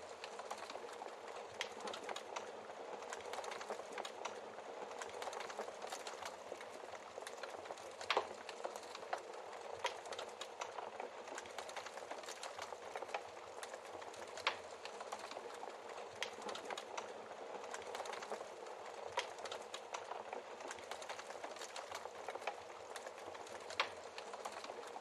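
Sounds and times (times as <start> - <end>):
wood fire crackling: 0.0 - 25.0
burning logs popping: 0.1 - 25.0.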